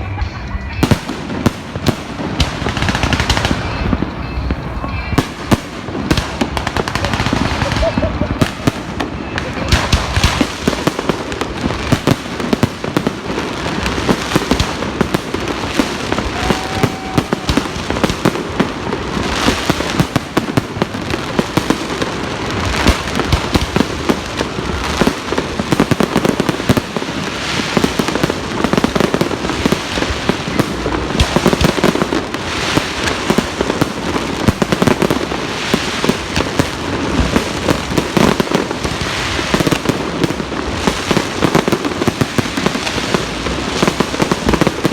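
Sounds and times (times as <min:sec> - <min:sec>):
fireworks and firecrackers banging: 0:00.0 - 0:44.9.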